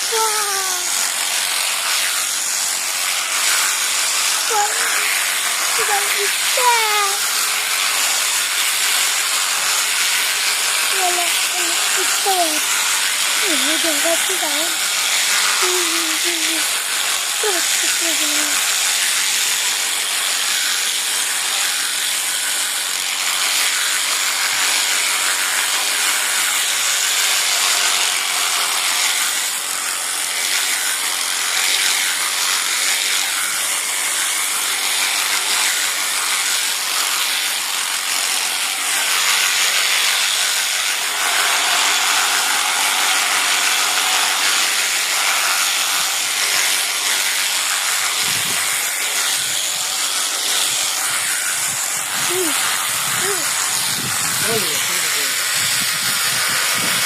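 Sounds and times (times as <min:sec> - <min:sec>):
loud steady mechanical noise: 0:00.0 - 0:57.0.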